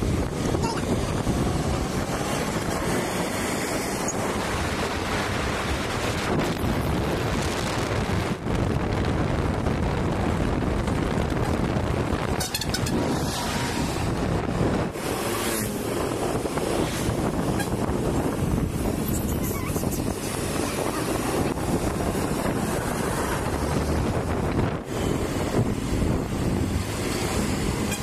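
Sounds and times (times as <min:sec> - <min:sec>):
road vehicle passing: 0:00.0 - 0:28.0
wind buffeting microphone: 0:00.0 - 0:28.0.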